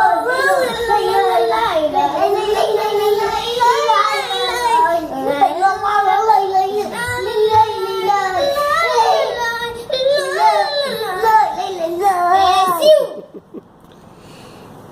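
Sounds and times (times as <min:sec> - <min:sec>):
child singing: 0:00.0 - 0:13.2.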